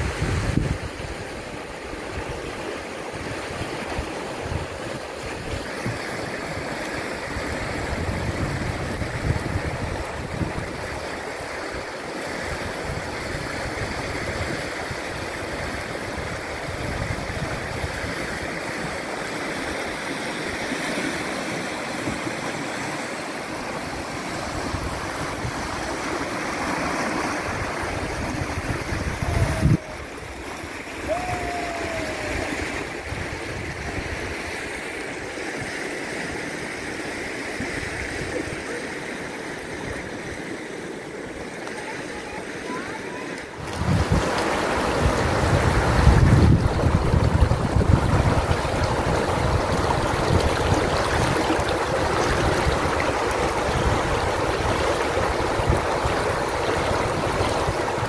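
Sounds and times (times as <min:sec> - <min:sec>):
rushing river rapid: 0:00.0 - 0:58.0.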